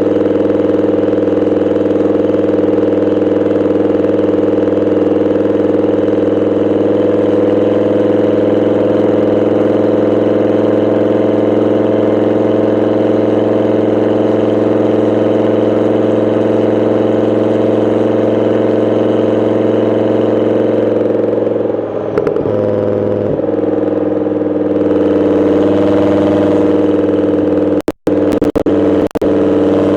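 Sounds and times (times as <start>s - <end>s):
car engine running steadily: 0.0s - 29.9s.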